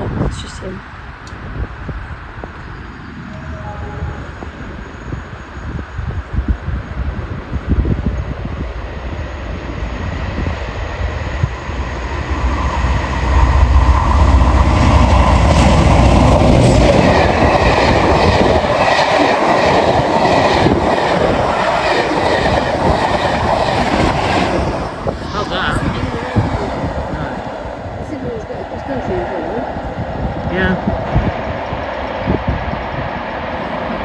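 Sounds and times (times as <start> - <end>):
locomotive rumble: 0.0 - 34.0.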